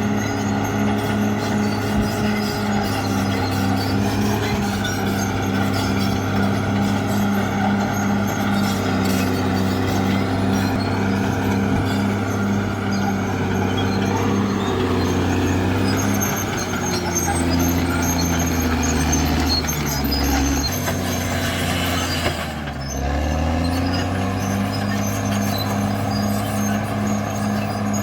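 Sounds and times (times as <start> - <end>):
bulldozer diesel engine drone: 0.0 - 28.0.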